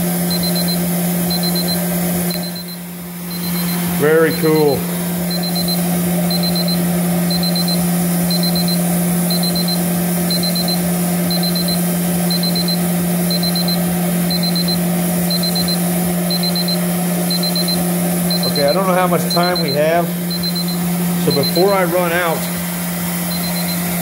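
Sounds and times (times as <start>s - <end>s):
thermometer alarm beeping: 0.0s - 24.0s.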